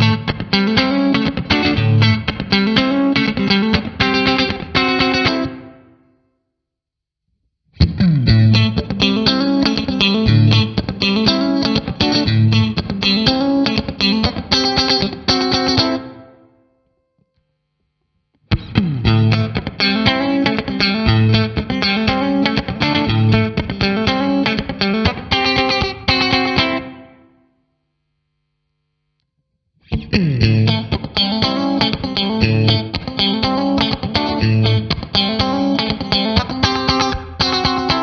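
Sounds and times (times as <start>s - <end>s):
electric guitar strumming chord stabs: 0.0s - 6.0s, 7.8s - 16.4s, 18.5s - 27.3s, 29.9s - 38.0s.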